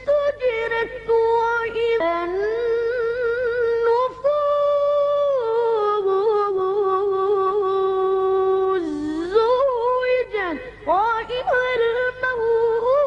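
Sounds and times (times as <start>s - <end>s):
boy chanting melodic recitation: 0.0s - 13.0s.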